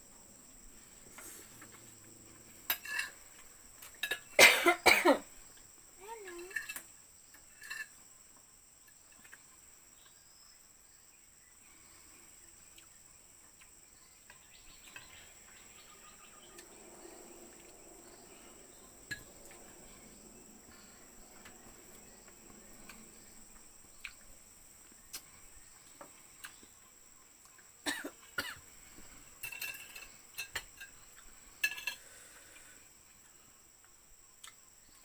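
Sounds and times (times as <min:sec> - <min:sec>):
crickets chirring: 0:00.0 - 0:35.0.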